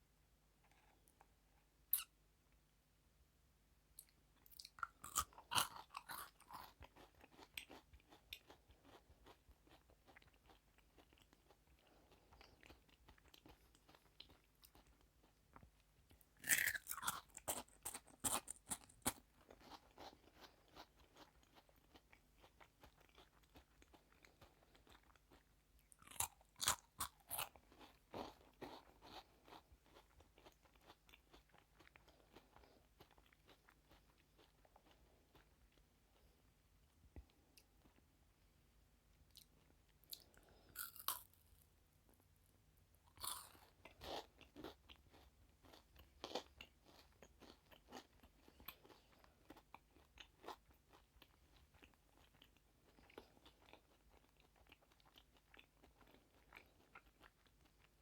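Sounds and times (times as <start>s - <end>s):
crunchy food being chewed: 4.0s - 38.2s, 39.2s - 42.3s, 43.1s - 58.0s.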